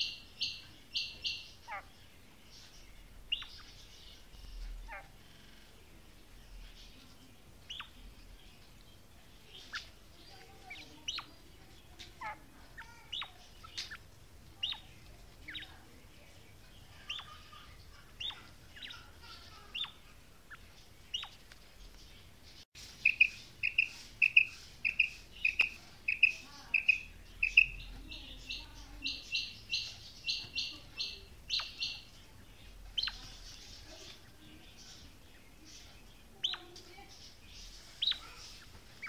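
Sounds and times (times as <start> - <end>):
quail chirping: 0.0 - 8.8, 9.5 - 39.0.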